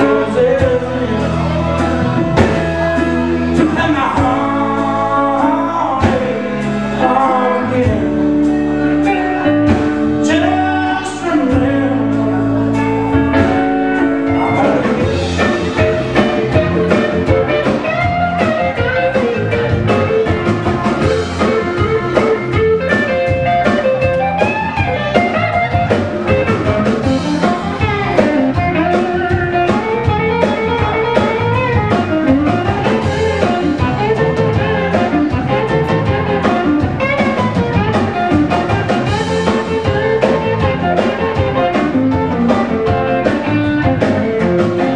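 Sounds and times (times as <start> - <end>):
bass and drums: 0.0 - 44.9
electric guitar: 0.0 - 44.9.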